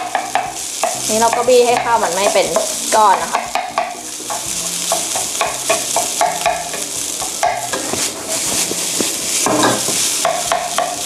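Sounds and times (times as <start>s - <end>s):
rice sizzling in frying pan: 0.0s - 11.0s
wooden spatula scraping pan: 0.0s - 11.0s.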